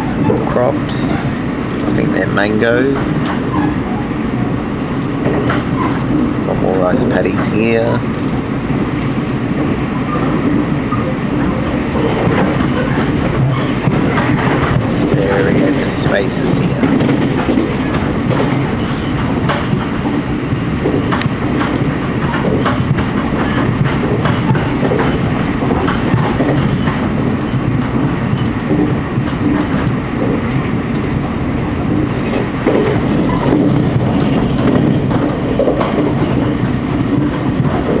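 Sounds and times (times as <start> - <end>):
train rumble: 0.0 - 38.0
wheels clicking over rails: 0.0 - 38.0.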